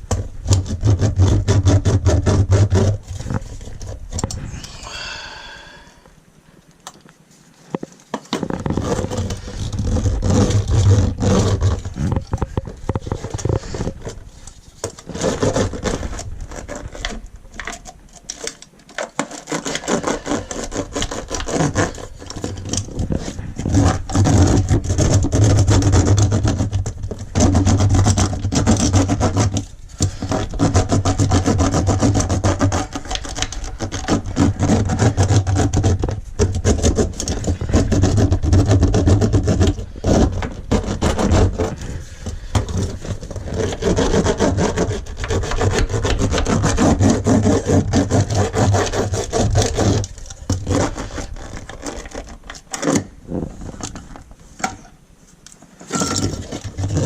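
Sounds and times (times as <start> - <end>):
hand roller scraping on mat: 0.0 - 4.6, 7.7 - 54.9, 55.7 - 57.0.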